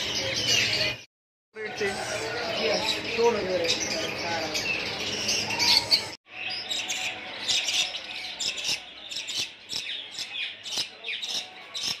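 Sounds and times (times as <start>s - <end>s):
caged birds chirping and squawking: 0.0s - 12.0s.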